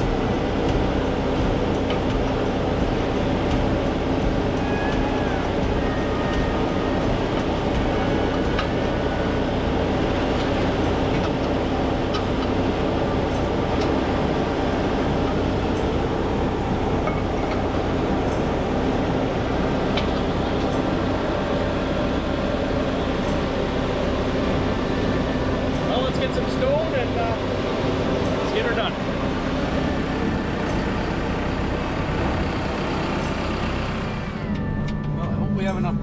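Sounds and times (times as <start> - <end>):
heavy equipment engine running: 0.0 - 36.0.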